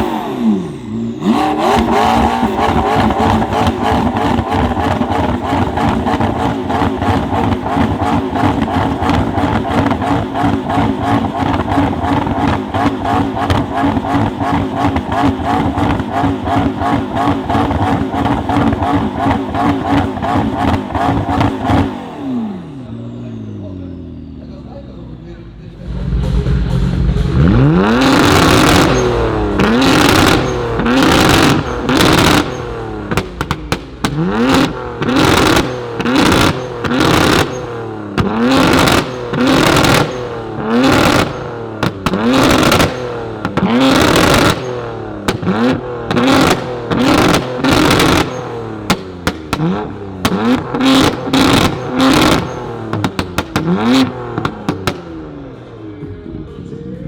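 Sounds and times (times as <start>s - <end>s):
exhaust cracks: 0.0s - 55.7s
car engine revving: 0.0s - 56.1s.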